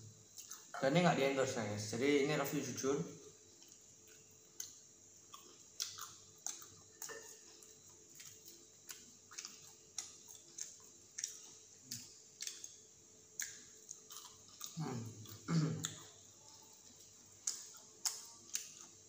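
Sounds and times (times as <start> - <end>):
crunchy chewing of snacks: 3.5 - 19.0.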